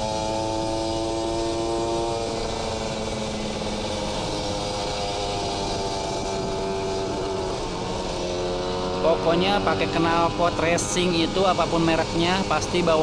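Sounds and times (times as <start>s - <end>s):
road and wind noise: 0.0s - 13.0s
two-stroke motorbike engine cruising: 0.0s - 13.0s.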